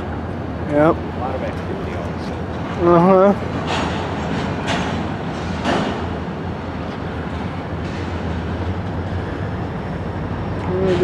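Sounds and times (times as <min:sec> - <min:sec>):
train cars clanking: 0:00.0 - 0:11.0
train cars rumbling: 0:00.0 - 0:11.0.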